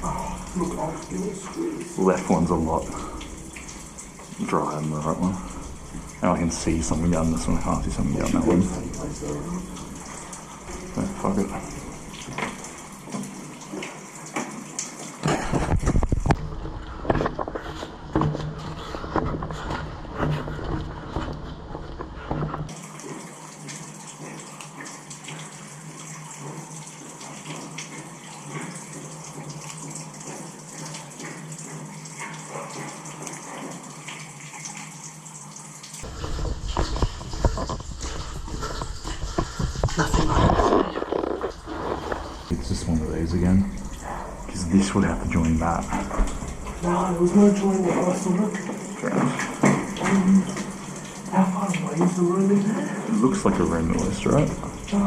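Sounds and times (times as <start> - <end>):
water running in drain tunnel: 0.0 - 55.0.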